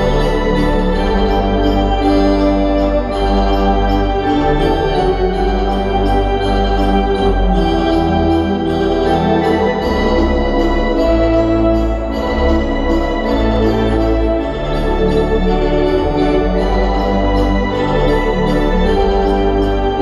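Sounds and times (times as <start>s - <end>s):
pipe organ chords: 0.0s - 20.0s.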